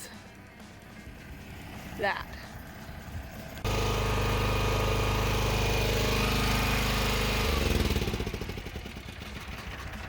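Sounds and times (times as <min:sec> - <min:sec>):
tractor engine running: 0:00.6 - 0:10.0.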